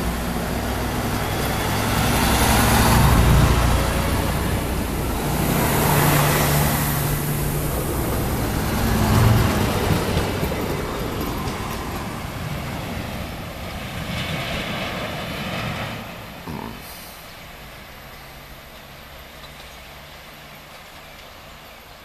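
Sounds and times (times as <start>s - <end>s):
wheels rolling on rails: 0.0s - 16.6s, 17.6s - 22.0s
train engine hum: 0.0s - 22.0s.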